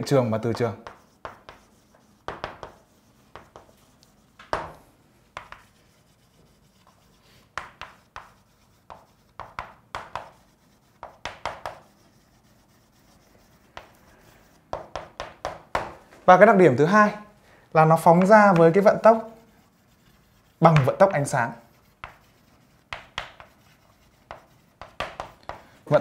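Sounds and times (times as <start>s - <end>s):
chalk writing on a chalkboard: 0.4s - 15.9s, 17.9s - 26.0s.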